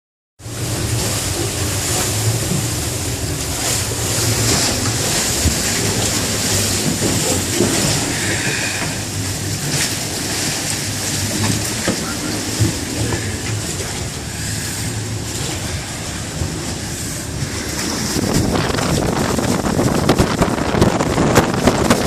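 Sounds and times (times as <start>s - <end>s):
boat engine running: 0.4s - 22.0s
rushing water: 0.4s - 22.0s
wind: 0.4s - 22.0s.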